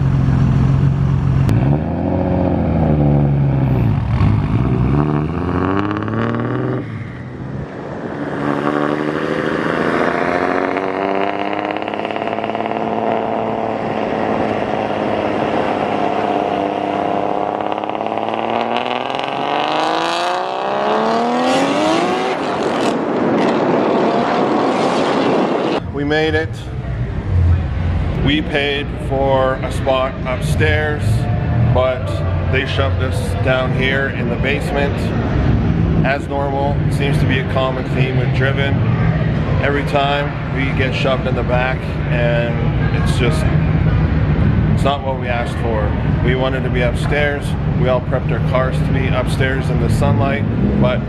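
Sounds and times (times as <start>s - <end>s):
car engine and loud exhaust: 0.0s - 51.0s.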